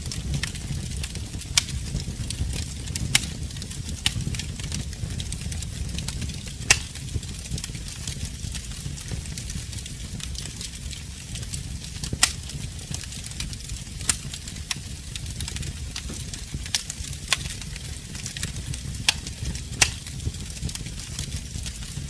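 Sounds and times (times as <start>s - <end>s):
fire crackling in fireplace: 0.0s - 22.0s
fire popping: 0.0s - 22.0s.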